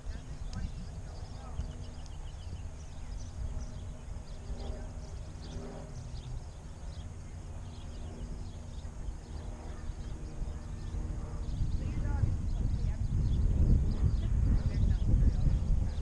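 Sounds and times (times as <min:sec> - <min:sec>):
faint steady hum: 0:00.0 - 0:16.0
wind rumbling on microphone: 0:00.0 - 0:16.0.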